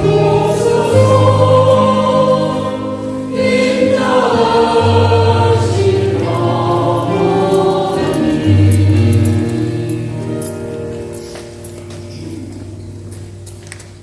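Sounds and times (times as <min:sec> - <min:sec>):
choir singing a hymn: 0:00.0 - 0:11.3.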